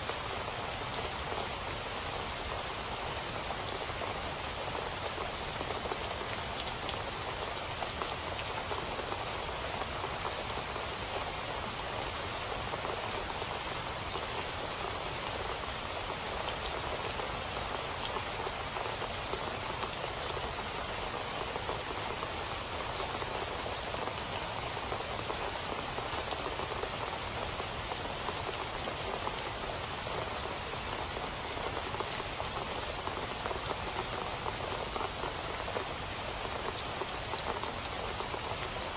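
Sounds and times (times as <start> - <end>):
steady rain splashing: 0.0 - 38.9.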